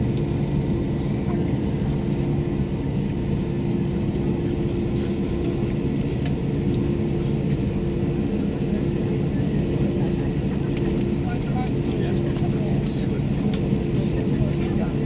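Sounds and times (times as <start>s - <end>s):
jet engines running at low power: 0.0s - 15.0s.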